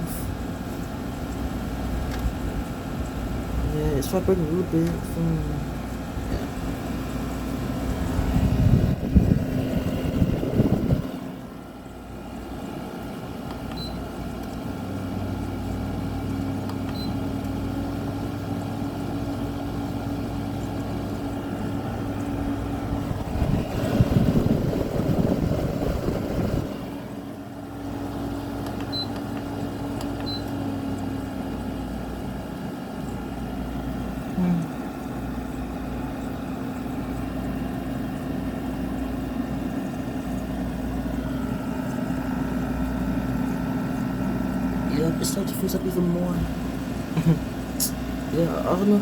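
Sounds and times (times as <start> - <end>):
air conditioner compressor hum: 0.0 - 49.0
air conditioner fan: 0.0 - 49.0.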